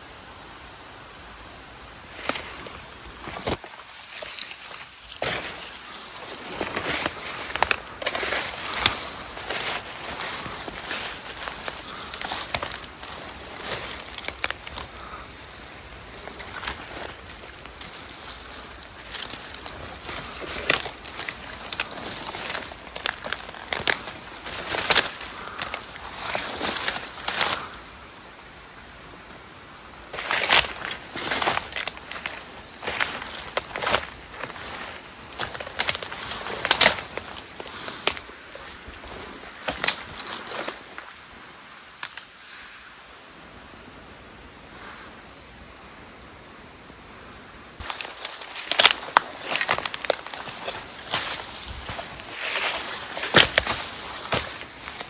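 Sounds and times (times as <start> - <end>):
steady hiss: 0.0 - 55.0
footsteps crunching through dry leaves: 2.1 - 27.9, 30.1 - 41.4, 47.8 - 55.0
twigs snapping: 2.2 - 27.8, 30.1 - 41.2, 41.9 - 42.3, 47.8 - 55.0.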